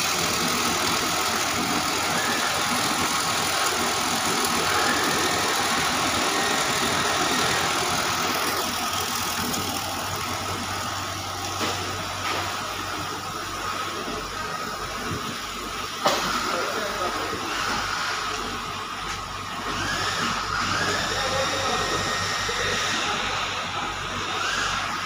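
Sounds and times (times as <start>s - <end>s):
machine drone with hiss: 0.0s - 25.0s.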